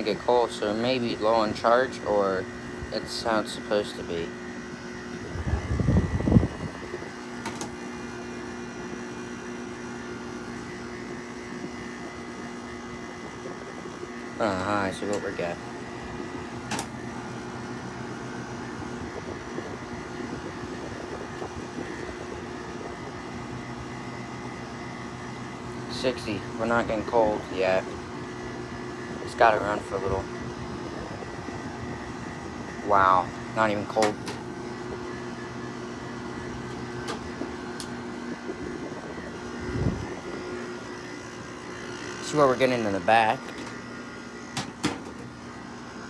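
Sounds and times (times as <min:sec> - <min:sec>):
air conditioner humming: 0:00.0 - 0:46.0.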